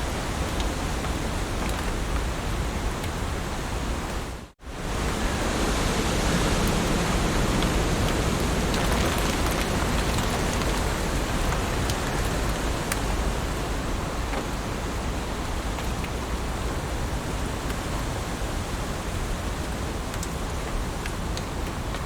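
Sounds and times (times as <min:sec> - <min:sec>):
heavy rain on leaves: 0:00.0 - 0:22.0.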